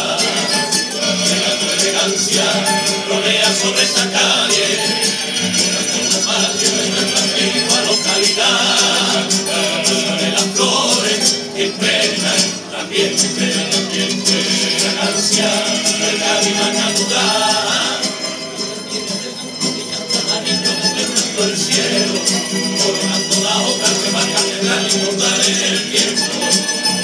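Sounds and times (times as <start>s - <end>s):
choir singing in chorus: 0.0s - 18.2s, 20.3s - 27.0s
strummed guitars and bandurrias: 0.0s - 27.0s.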